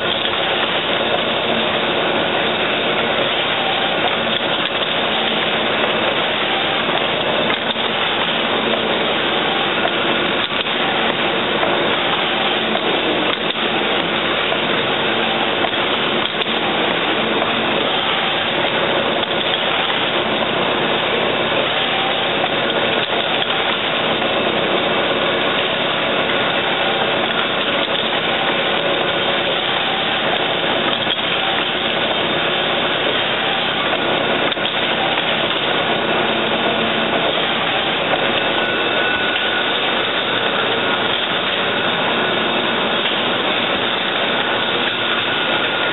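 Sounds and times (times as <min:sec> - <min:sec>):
faint steady tones: 0:00.0 - 0:45.9
machinery humming: 0:00.0 - 0:45.9.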